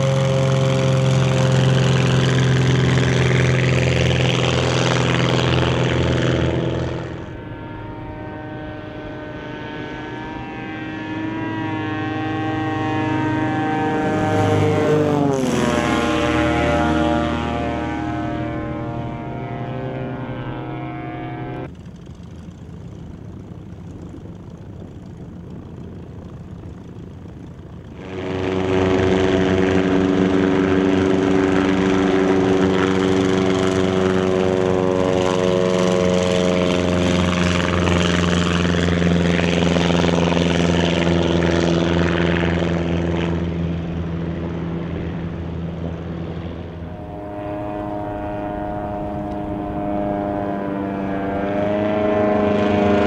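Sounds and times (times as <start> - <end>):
faint airplane drone: 0.0 - 53.0
propeller plane engine drone: 0.0 - 53.0.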